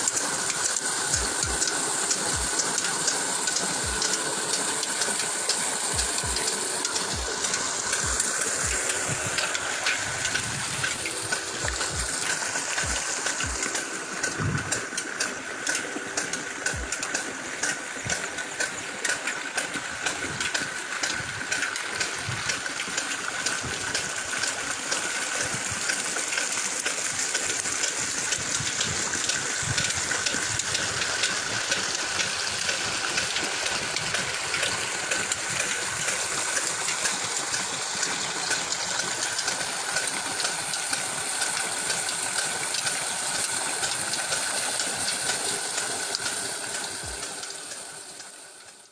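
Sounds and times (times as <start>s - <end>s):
old diesel engine running: 0.0s - 48.3s
pumped water rushing: 0.0s - 48.9s.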